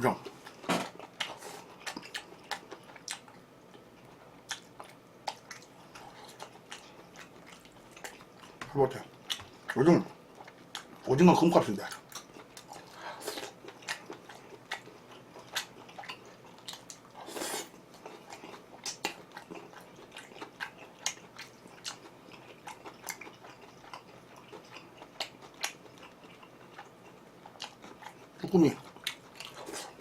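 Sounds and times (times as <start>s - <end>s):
person chewing chewy food: 0.4s - 11.1s, 11.8s - 30.0s.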